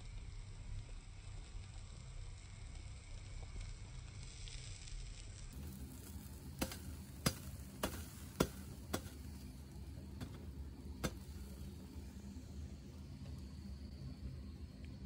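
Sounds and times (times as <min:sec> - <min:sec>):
meat sizzling faintly: 0:00.0 - 0:15.0.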